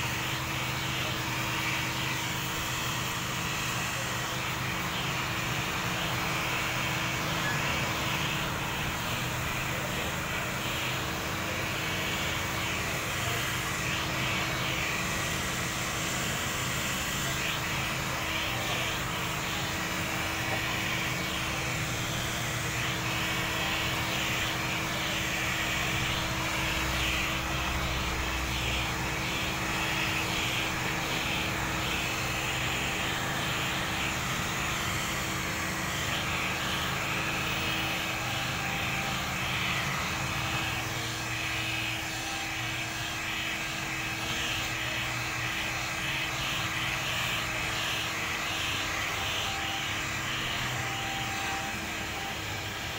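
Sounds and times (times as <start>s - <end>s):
heat gun fan blowing: 0.0s - 52.9s.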